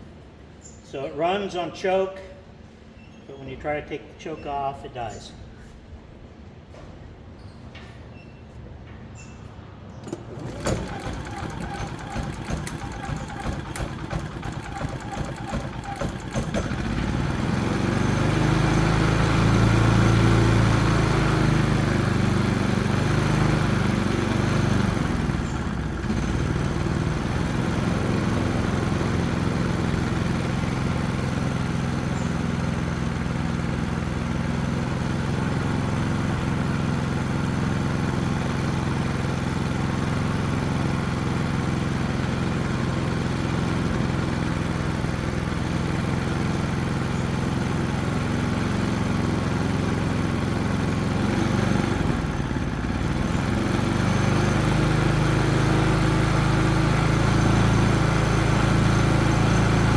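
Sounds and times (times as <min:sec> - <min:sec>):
generator engine running: 0:10.0 - 0:59.9.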